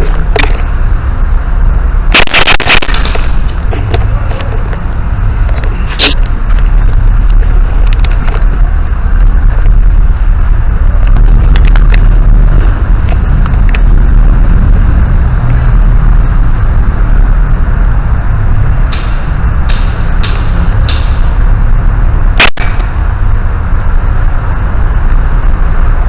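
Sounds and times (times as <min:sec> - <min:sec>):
heavy low rumble: 0:00.0 - 0:26.0.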